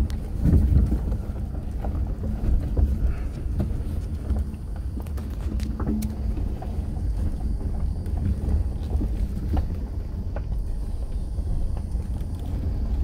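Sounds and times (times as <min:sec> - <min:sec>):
car interior low rumble: 0:00.0 - 0:13.0
gravel ticking under tyres: 0:00.0 - 0:13.0.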